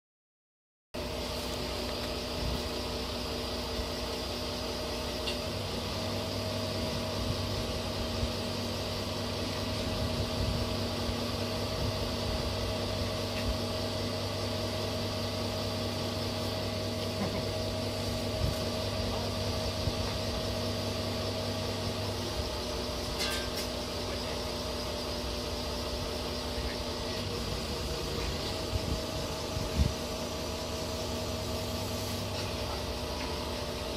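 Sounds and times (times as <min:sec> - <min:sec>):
diesel engine idling: 0:01.0 - 0:33.9.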